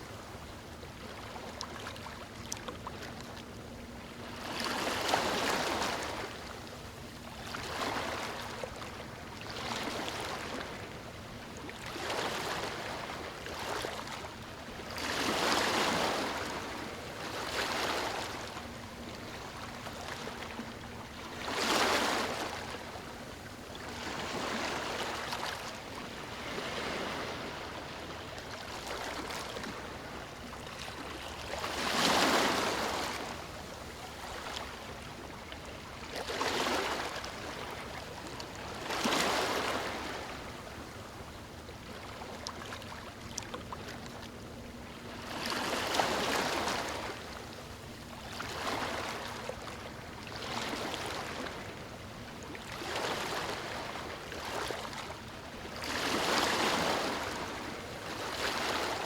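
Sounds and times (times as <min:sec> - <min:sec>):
ocean waves on a beach: 0:00.0 - 0:59.0.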